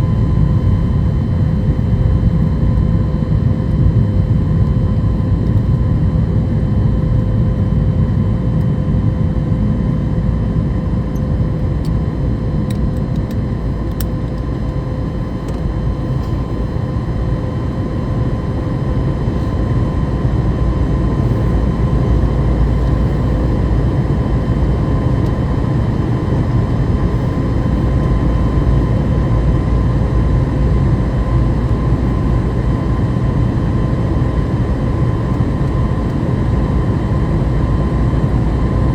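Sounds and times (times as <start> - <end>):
deep roar of jet engines: 0.0 - 38.9
steady whine: 0.0 - 38.9.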